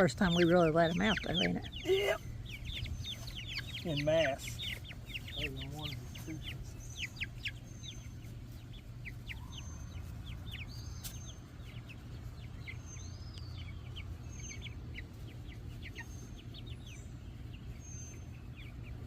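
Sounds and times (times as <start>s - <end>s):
chicks peeping: 0.0s - 19.0s
steady low hum: 0.0s - 19.0s.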